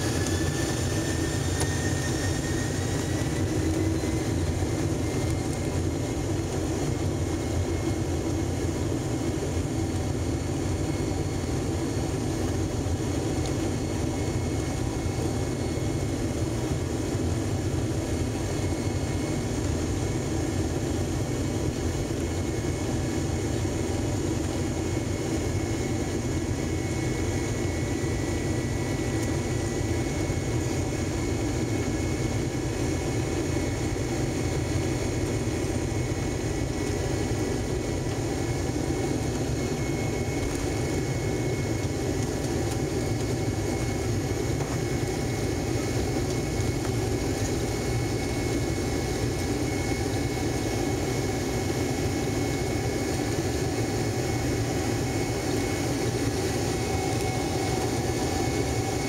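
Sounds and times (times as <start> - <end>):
high engine whine: 0.0 - 59.0
jet engine drone in cabin: 0.0 - 59.0.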